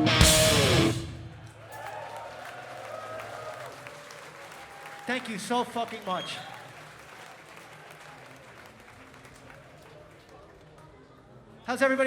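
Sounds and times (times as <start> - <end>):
crowd applauding and cheering: 0.0 - 10.4.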